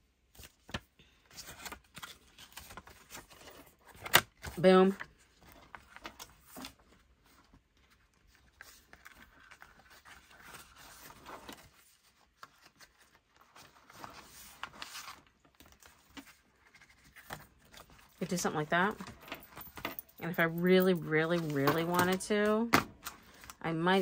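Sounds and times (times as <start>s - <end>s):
notebook pages rustling: 0.3s - 19.8s, 21.0s - 24.0s.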